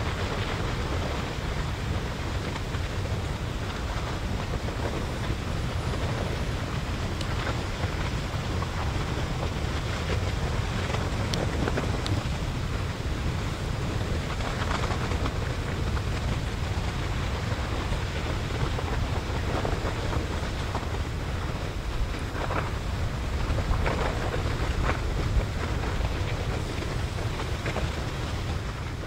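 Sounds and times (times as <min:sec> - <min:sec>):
lava rumbling and hissing: 0:00.0 - 0:29.0
wind buffeting microphone: 0:00.0 - 0:29.0.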